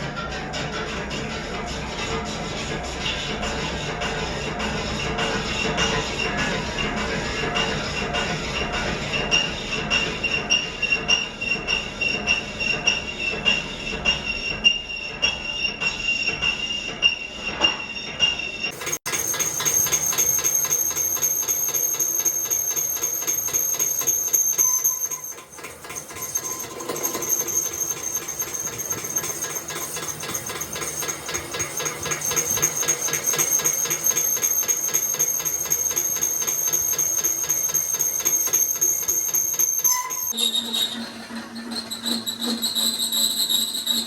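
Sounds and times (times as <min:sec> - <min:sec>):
metalworking machine squealing: 0:00.0 - 0:44.0.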